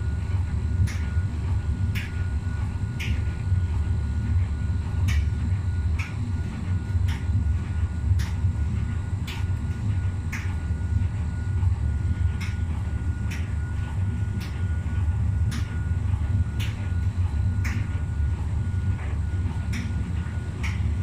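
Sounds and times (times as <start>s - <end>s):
washing machine drum rumbling: 0.0s - 21.0s.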